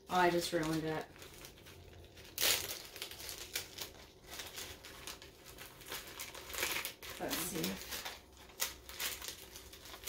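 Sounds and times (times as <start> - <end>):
adhesive sheet crinkling: 0.4 - 10.0.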